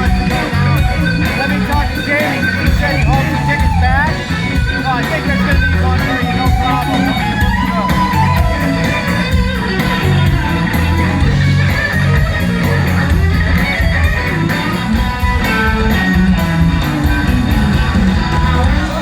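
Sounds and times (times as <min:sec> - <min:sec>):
blues-rock band playing: 0:00.0 - 0:19.0
electric guitar: 0:00.0 - 0:19.0.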